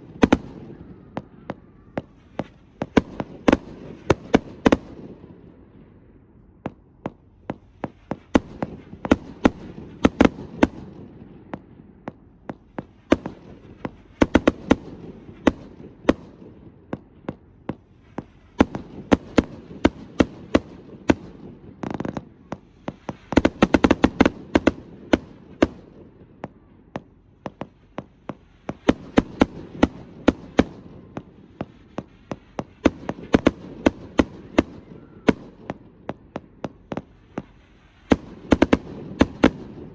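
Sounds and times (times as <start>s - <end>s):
fireworks bangs: 0.0s - 39.9s
rumble of firework bursts: 0.0s - 39.9s.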